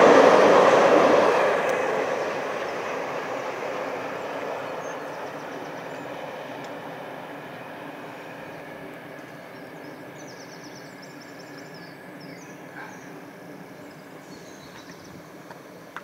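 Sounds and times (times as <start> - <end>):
steam train rumbling: 0.0 - 16.0.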